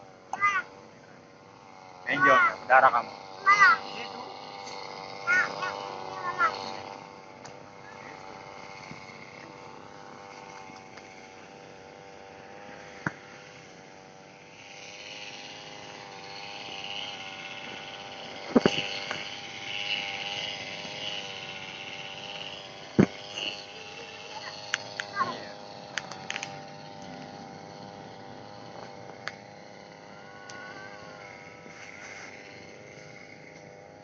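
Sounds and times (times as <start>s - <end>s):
brush cutter engine running: 0.0s - 34.0s
high rasping noise: 0.0s - 34.0s.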